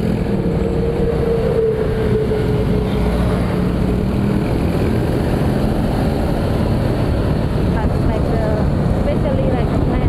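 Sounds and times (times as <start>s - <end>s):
wind and road noise rumble: 0.0s - 10.0s.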